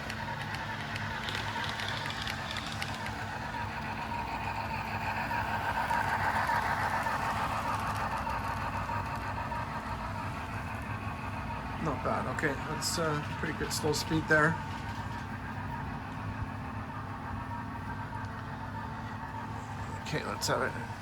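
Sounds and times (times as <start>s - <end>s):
model steam locomotive sound: 0.0s - 21.0s
model train motor and wheels: 0.0s - 21.0s.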